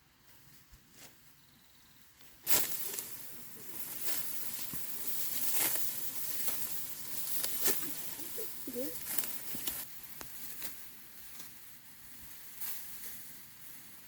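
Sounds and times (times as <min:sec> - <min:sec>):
dry rice stalks rustling: 0:02.3 - 0:14.0.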